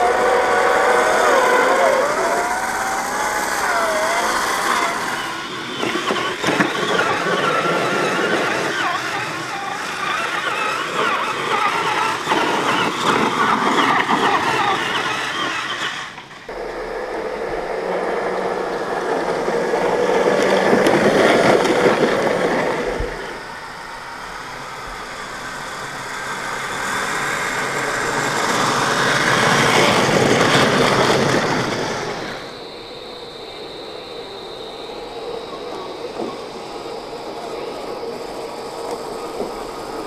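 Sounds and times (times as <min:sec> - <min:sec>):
toy truck electric motors whirring: 0:00.0 - 0:40.0.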